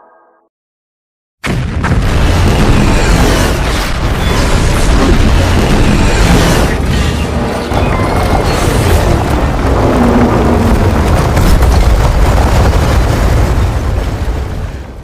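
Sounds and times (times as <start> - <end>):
continuous rumbling boom: 1.4 - 15.0.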